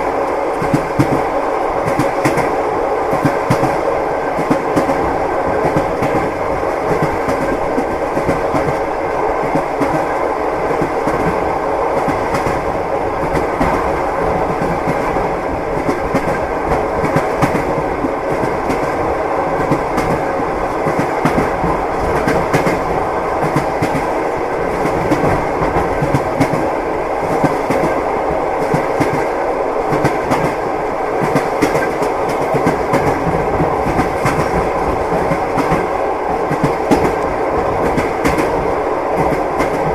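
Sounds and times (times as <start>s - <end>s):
train wheels clicking over joints: 0.3s - 39.9s.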